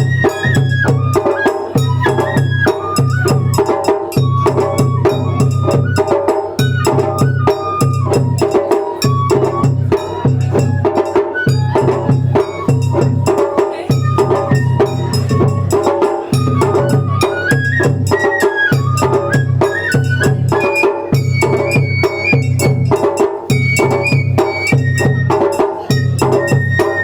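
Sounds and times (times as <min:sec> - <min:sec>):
bamboo flute melody: 0:00.0 - 0:27.0
drums and clacking percussion: 0:00.0 - 0:27.0.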